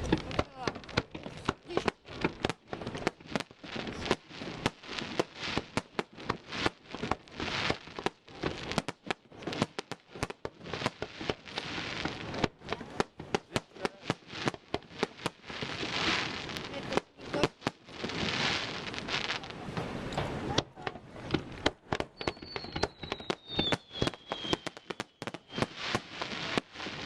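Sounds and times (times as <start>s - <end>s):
fireworks banging and crackling: 0.0s - 27.0s
fireworks hissing: 0.0s - 27.0s.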